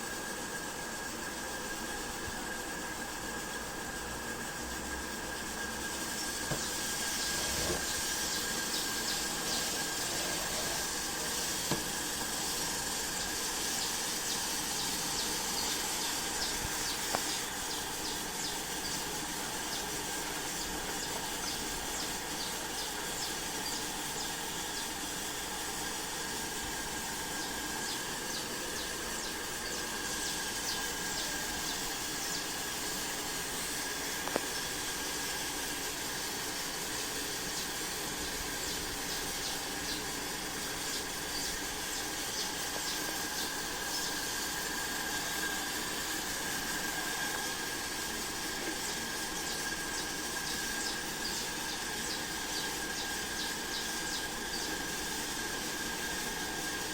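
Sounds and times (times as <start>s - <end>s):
static hiss with crackles: 0.0s - 56.9s
thin high steady tone: 0.0s - 56.9s.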